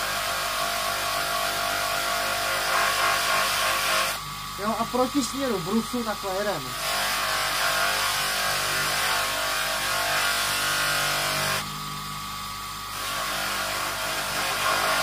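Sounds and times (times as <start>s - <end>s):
motor hum: 0.0s - 15.0s.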